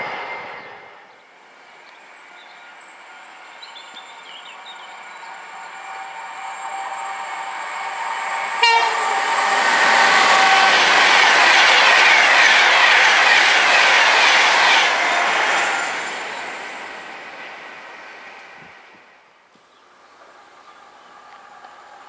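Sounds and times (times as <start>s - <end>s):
electric train passing at speed: 0.0s - 22.0s.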